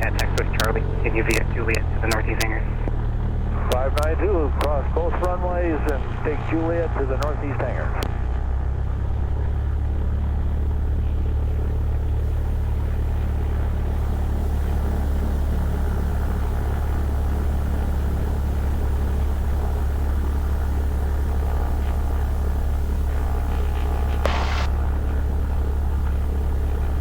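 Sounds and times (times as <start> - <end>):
aircraft piston engine idling: 0.0 - 27.0.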